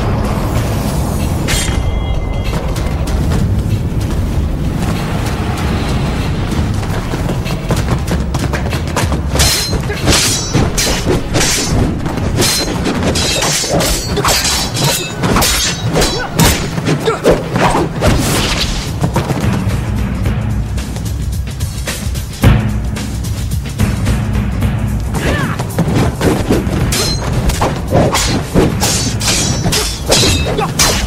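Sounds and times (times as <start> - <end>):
action music with low pulse: 0.0 - 30.3
sharp hits and swishes: 0.6 - 19.8, 25.0 - 31.0.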